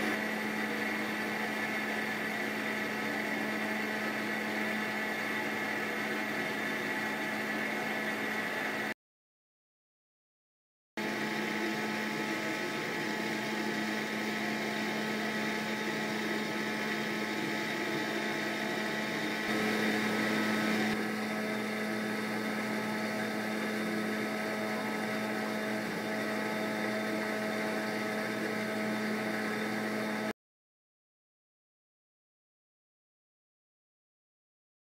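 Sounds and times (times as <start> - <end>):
machine humming and hissing: 0.0 - 8.9, 11.0 - 30.3.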